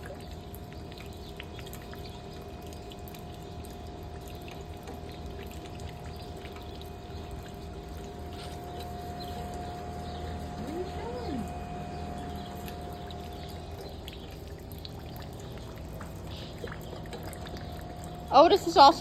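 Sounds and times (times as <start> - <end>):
small drip ticks: 0.0 - 19.0
water running and pouring: 0.0 - 19.0.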